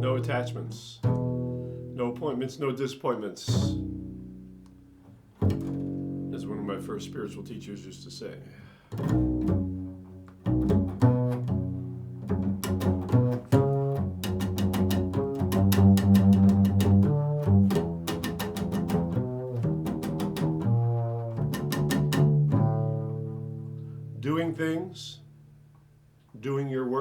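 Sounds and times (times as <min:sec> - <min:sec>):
low-pitched string instrument: 0:00.0 - 0:02.6, 0:03.5 - 0:25.9.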